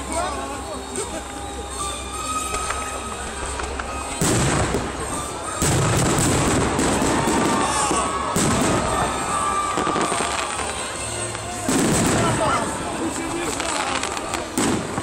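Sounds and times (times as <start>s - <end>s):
fireworks crackling: 0.0s - 15.0s
fireworks bangs: 1.6s - 15.0s.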